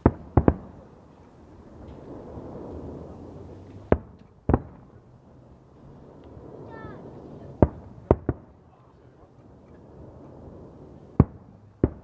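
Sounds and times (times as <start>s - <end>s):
fireworks bangs: 0.0s - 5.0s, 6.0s - 8.6s, 9.5s - 12.0s
low background noise: 0.0s - 12.0s.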